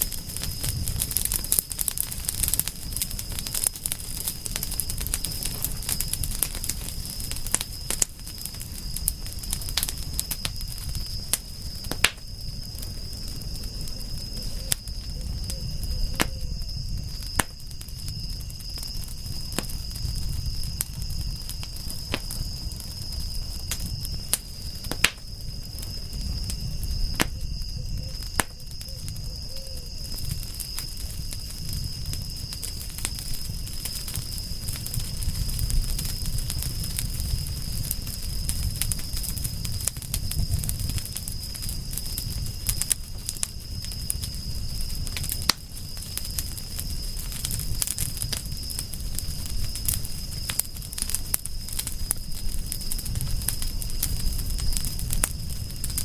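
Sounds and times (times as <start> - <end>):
high-pitched insect trill: 0.0 - 56.0
loud fire snaps: 0.0 - 56.0
low rumble of flames: 0.0 - 56.0
wood fire crackling and popping: 0.0 - 56.0.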